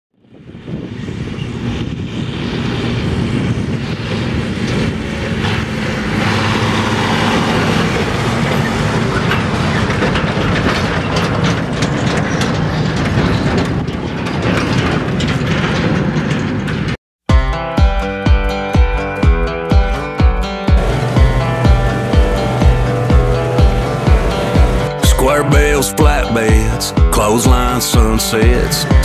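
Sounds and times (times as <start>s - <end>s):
tractor engine running: 1.1s - 29.0s.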